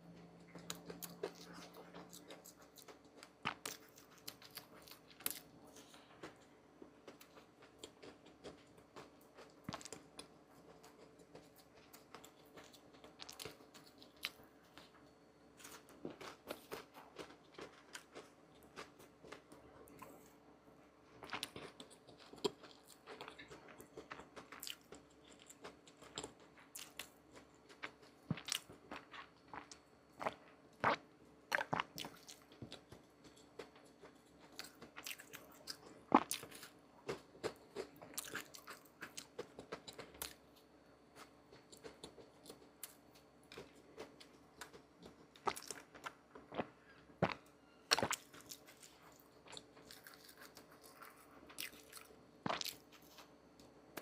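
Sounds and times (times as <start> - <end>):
chewing crusty bread: 0.0 - 54.0.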